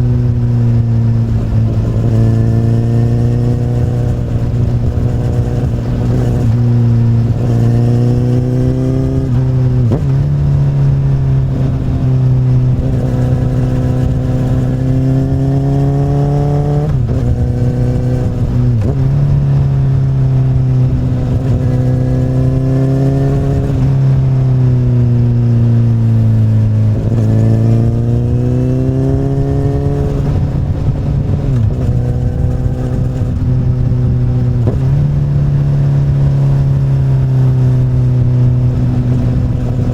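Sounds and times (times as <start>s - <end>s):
motorcycle exhaust accelerating: 0.0s - 39.9s.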